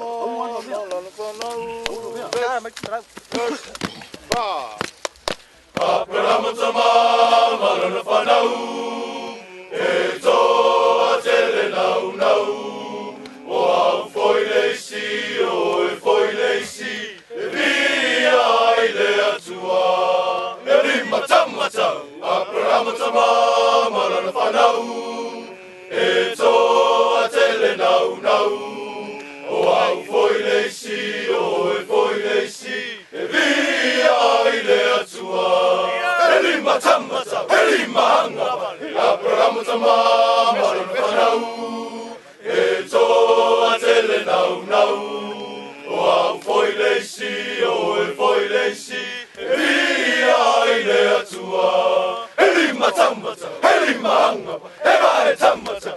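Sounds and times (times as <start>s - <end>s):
group of men singing: 0.0s - 2.3s, 5.8s - 55.9s.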